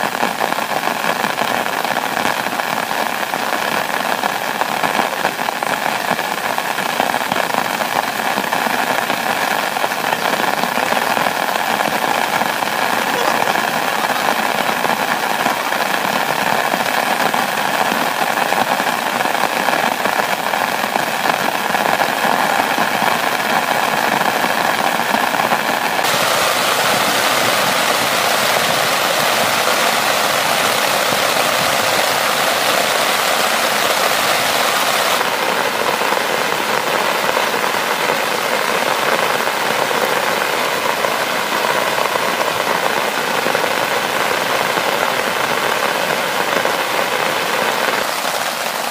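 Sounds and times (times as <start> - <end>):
rain on a tent: 0.0 - 48.9.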